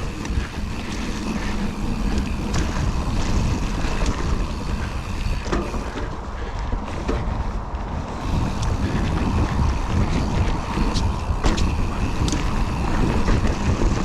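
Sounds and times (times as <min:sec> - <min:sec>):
bike knocks and rattles: 0:00.0 - 0:14.0
tyre noise on dirt: 0:00.0 - 0:14.0
wind rushing over microphone: 0:00.0 - 0:14.0.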